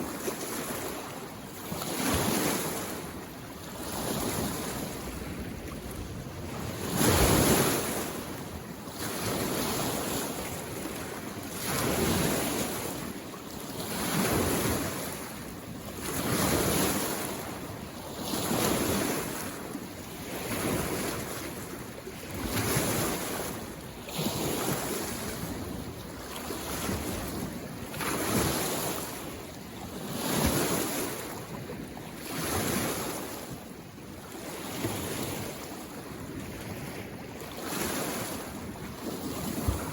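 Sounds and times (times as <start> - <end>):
wind on microphone: 0.0 - 33.4, 34.4 - 39.9
lake waves lapping on shore: 0.0 - 39.9.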